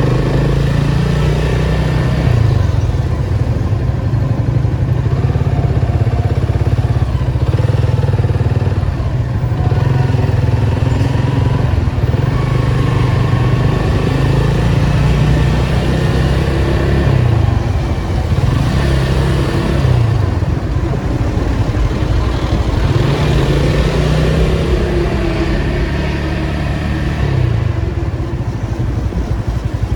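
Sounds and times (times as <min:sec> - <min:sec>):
car engine and exhaust revving: 0:00.0 - 0:29.9.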